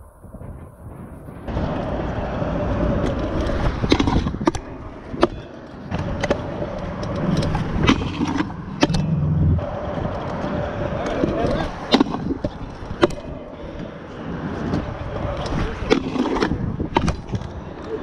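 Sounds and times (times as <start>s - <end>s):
scooter wheels rolling on concrete: 0.0s - 18.0s
scooter deck clacking on ground: 2.7s - 13.9s, 14.6s - 18.0s.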